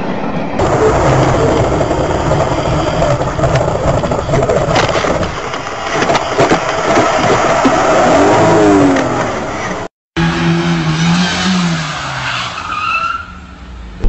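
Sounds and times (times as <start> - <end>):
car engine revving: 0.6 - 12.6.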